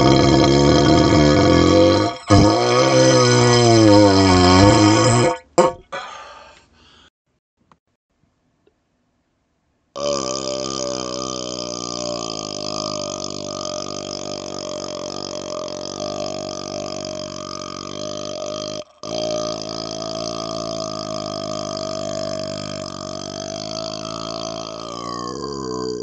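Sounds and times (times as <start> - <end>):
man belching: 0.0 - 6.2, 10.0 - 26.0.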